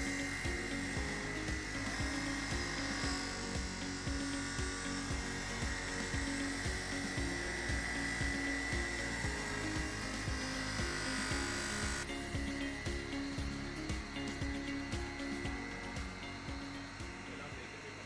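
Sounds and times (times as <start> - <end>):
background music with a beat: 0.0 - 18.0
buffing wheel motor whining: 0.0 - 18.0.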